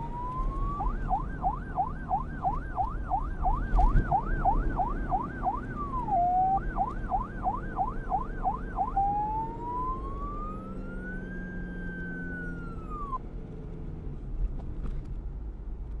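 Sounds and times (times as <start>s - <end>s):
reversed police siren: 0.0s - 13.2s.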